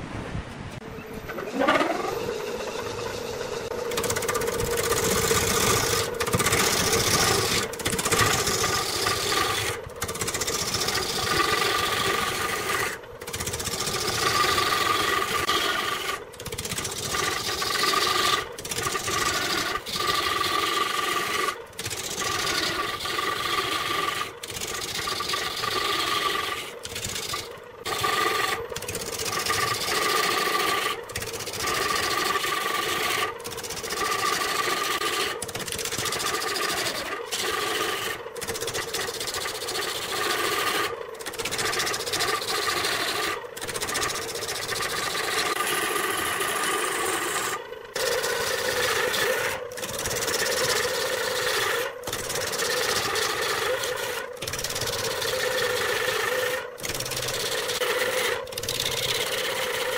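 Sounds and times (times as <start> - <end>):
wood lathe whine: 1.0 - 59.9
turning tool scraping wood: 1.3 - 59.9.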